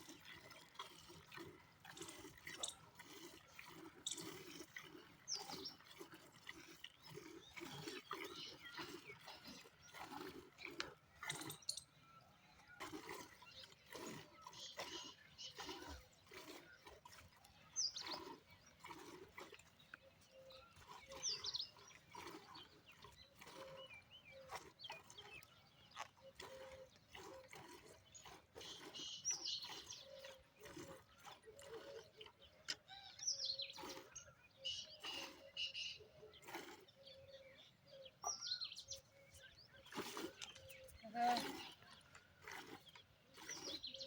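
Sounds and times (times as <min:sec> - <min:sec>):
birds chirping: 0:07.0 - 0:16.8, 0:17.5 - 0:27.1, 0:28.0 - 0:44.0.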